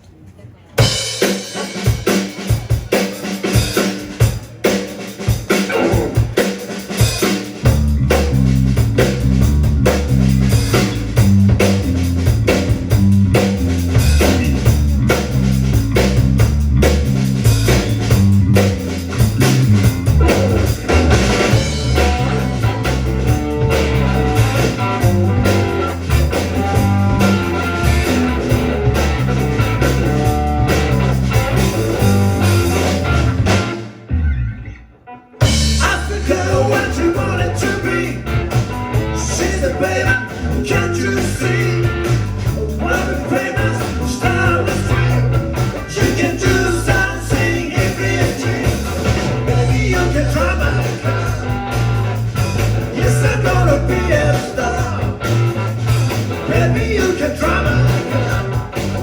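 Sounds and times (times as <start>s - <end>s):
drum kit beat: 0.8s - 34.1s, 35.4s - 59.0s
bass guitar: 0.8s - 59.0s
electric guitar: 5.6s - 59.0s.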